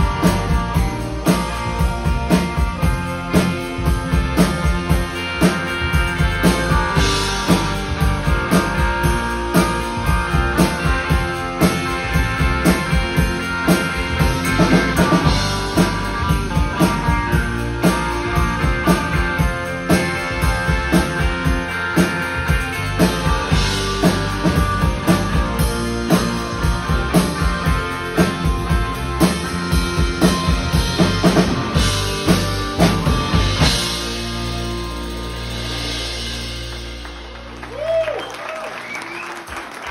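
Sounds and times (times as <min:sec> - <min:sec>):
keyboards: 0:00.0 - 0:37.7
drum kit beat: 0:00.0 - 0:38.2
electric guitars: 0:00.0 - 0:39.0
rock band playing: 0:00.0 - 0:39.9.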